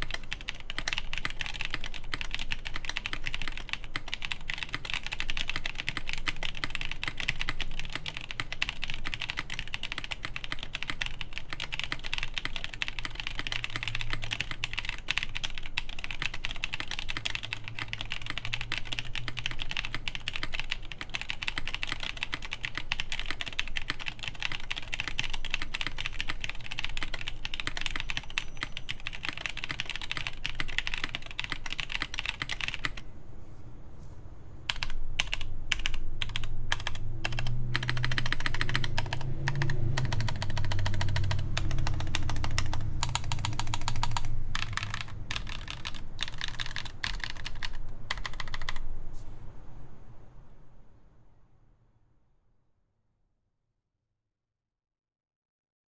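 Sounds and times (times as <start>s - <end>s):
typing on mechanical keyboard: 0.0s - 33.0s, 34.7s - 48.9s.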